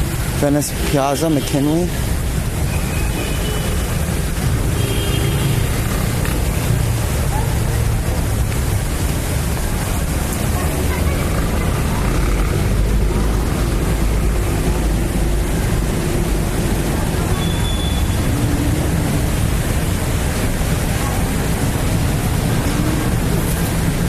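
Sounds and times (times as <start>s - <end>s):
cars and motorcycles passing: 0.0s - 24.0s.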